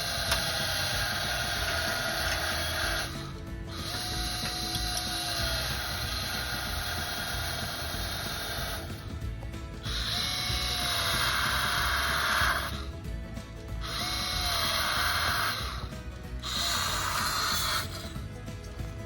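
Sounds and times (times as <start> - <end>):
background music: 0.0 - 19.0
power tool whining: 0.0 - 19.0.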